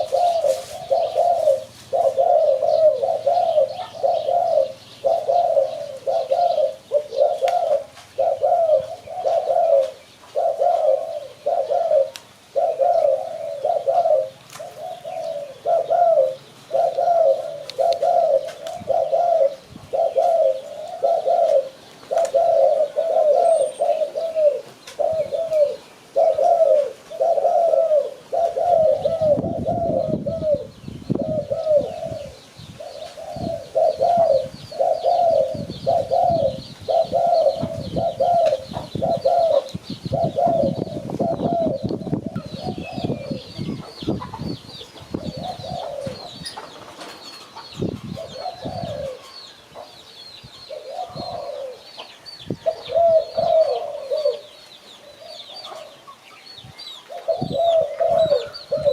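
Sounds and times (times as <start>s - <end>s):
dove cooing: 0.0s - 50.0s, 50.6s - 56.2s, 57.0s - 58.9s
small birds chirping: 0.0s - 58.9s.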